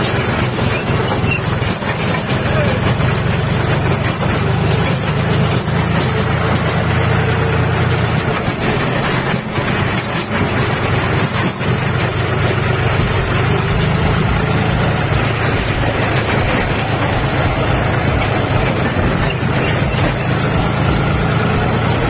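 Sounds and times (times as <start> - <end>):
tractor diesel engine running: 0.0 - 22.0
tractor jolting knocks: 0.0 - 22.0.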